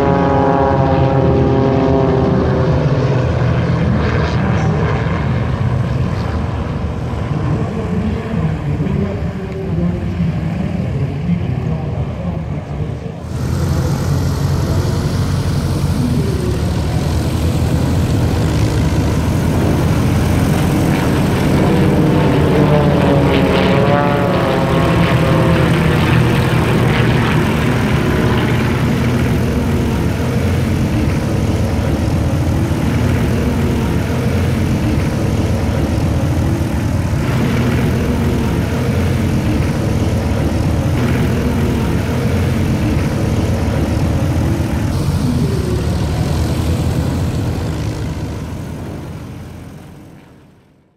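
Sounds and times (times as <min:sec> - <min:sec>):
propeller planes droning overhead: 0:00.0 - 0:50.9.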